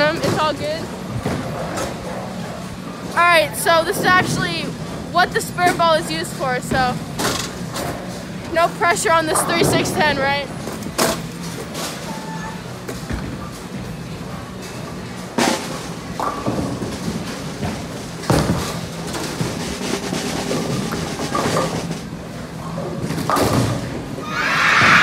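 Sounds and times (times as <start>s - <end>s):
noisy clatter: 0.0s - 24.2s.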